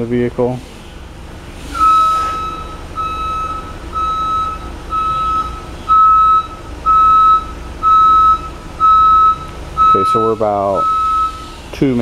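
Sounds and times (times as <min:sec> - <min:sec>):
engine idling: 0:00.0 - 0:12.0
reversing alarm beeping: 0:01.7 - 0:11.6.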